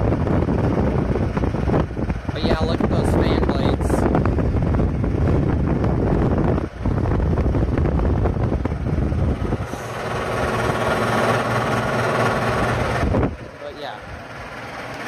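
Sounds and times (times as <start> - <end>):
air conditioner drone: 0.0 - 15.0.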